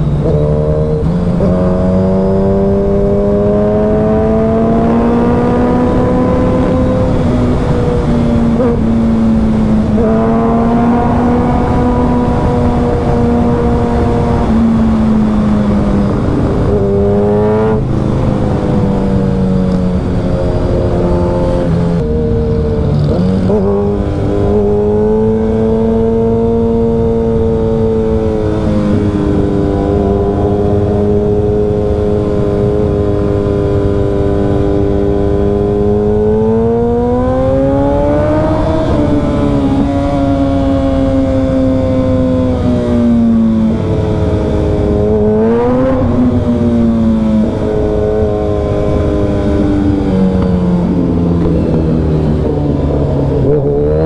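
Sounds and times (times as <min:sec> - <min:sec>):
motorcycle engine running loud: 0:00.0 - 0:54.0.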